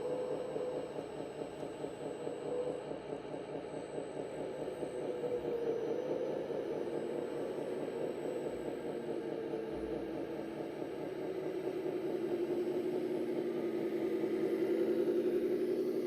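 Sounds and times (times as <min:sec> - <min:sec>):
simulated diesel engine sound: 0:00.0 - 0:16.0.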